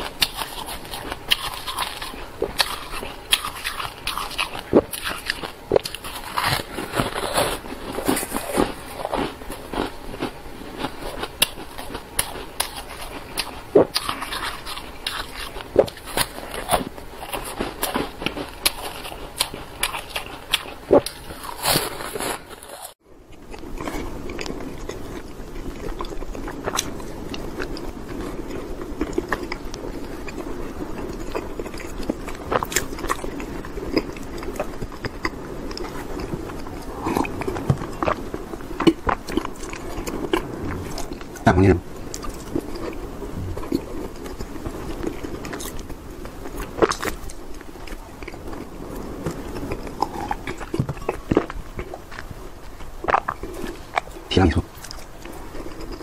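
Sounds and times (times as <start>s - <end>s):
crisp bites and chewing of fruit: 0.0s - 45.9s
soft moist chewing: 0.0s - 56.0s.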